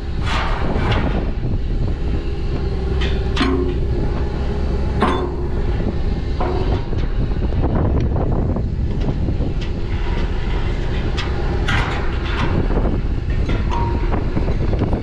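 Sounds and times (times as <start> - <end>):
engine running: 0.0 - 15.0
metallic clanks and rattles: 0.0 - 15.0.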